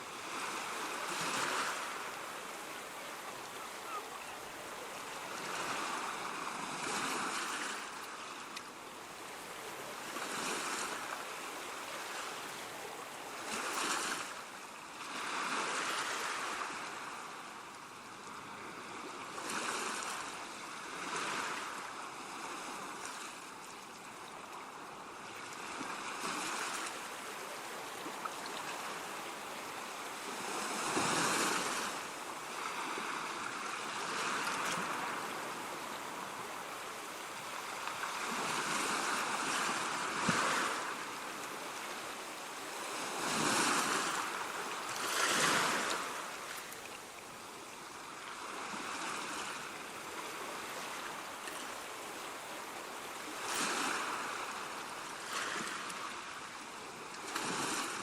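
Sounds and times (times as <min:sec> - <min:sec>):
sea waves breaking: 0:00.0 - 0:17.1, 0:25.4 - 0:56.6.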